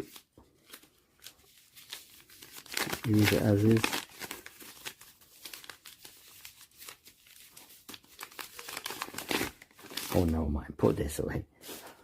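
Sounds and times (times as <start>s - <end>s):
paper rustling and crinkling: 0.0s - 10.5s.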